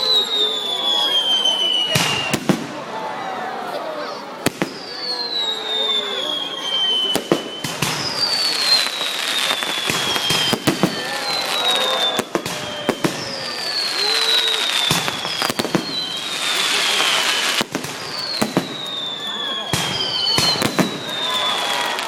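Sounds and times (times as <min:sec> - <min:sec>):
falling firework whistles: 0:00.0 - 0:02.8, 0:04.4 - 0:22.0
fireworks bangs and crackles: 0:00.0 - 0:22.0.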